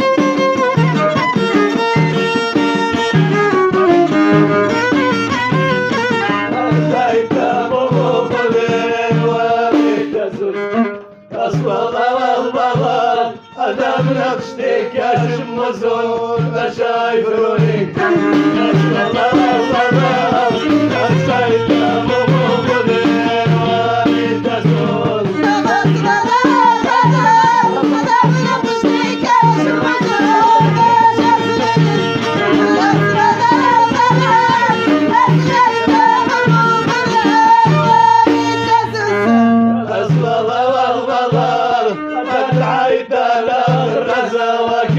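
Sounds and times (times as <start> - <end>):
bending folk melody: 0.0 - 44.9
hand drum beat: 0.0 - 44.9.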